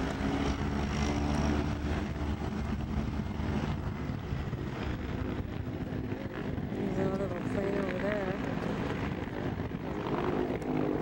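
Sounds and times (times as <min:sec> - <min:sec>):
propeller engines droning: 0:00.0 - 0:11.0.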